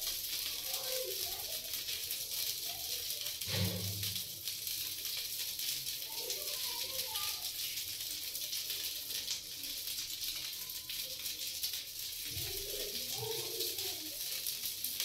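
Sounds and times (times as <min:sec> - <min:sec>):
crepe sizzling in frying pan: 0:00.0 - 0:15.0.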